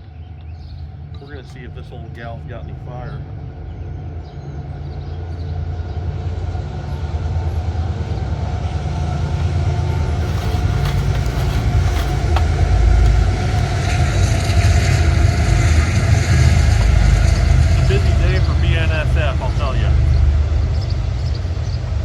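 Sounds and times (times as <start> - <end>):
engine rumble: 0.0 - 22.0.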